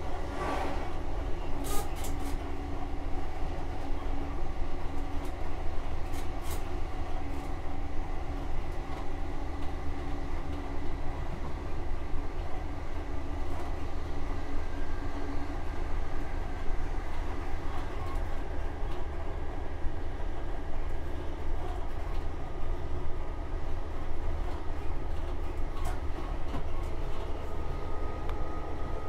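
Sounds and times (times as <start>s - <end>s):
train engine and wheels rumbling: 0.0s - 29.0s.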